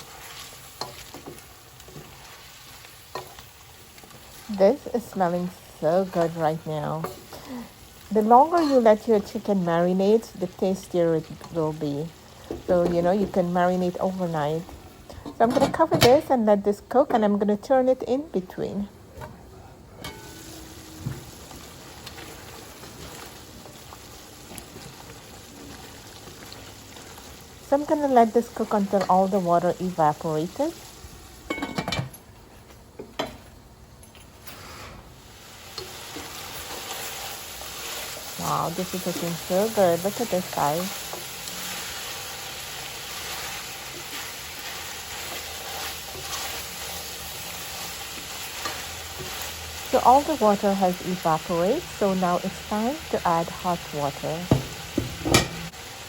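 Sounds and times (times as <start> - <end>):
pot sizzling and bubbling: 0.0 - 56.0.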